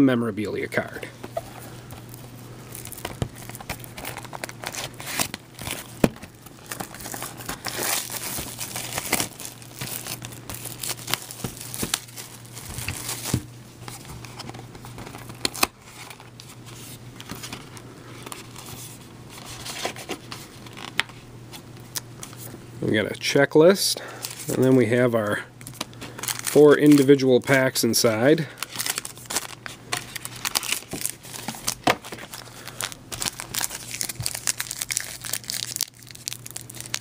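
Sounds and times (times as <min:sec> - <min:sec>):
plastic wrap crinkling: 0:01.3 - 0:21.0, 0:25.6 - 0:37.0.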